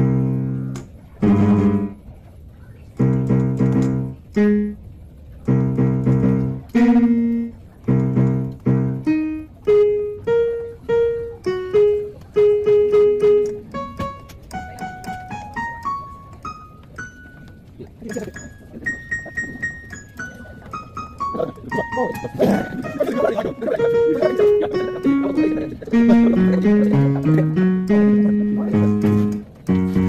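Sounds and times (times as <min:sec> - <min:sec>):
piano music: 0:00.0 - 0:02.2, 0:02.9 - 0:30.0.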